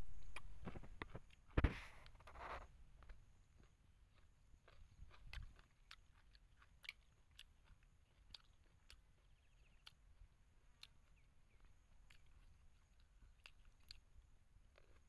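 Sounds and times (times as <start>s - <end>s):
person chewing crisp food: 0.0s - 15.0s.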